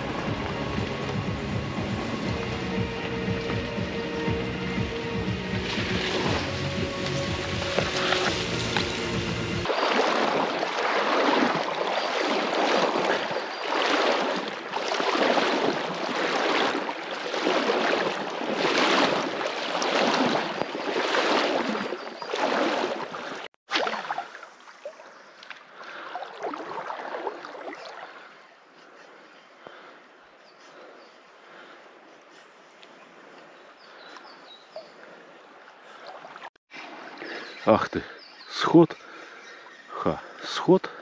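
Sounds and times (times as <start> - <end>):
water sloshing in surges: 0.0 - 29.9, 32.8 - 38.3
quiet river ambience: 0.0 - 41.0.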